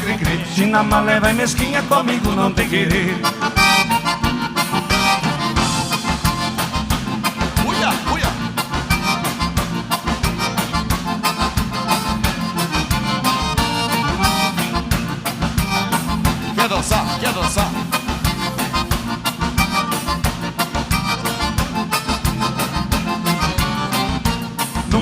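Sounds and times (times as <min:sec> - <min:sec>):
accordion melody: 0:00.0 - 0:25.0
bass and drums dance beat: 0:00.0 - 0:25.0.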